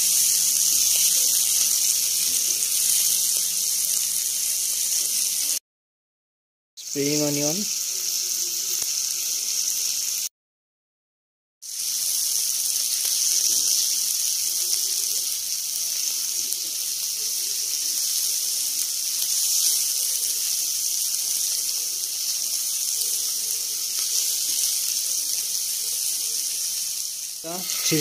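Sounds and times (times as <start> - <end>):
food sizzling in oil: 0.0 - 5.6, 6.8 - 10.3, 11.6 - 28.0.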